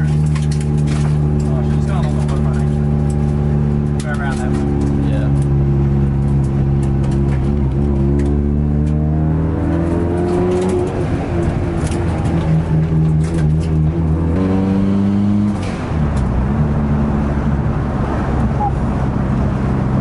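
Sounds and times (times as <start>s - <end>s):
car engine revving from inside: 2.7s - 20.0s.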